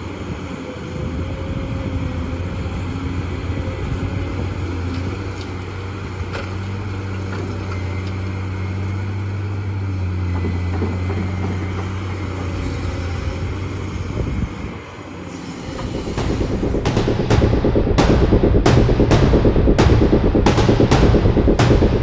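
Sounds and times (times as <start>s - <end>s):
heavy machine engine droning: 0.0s - 22.0s.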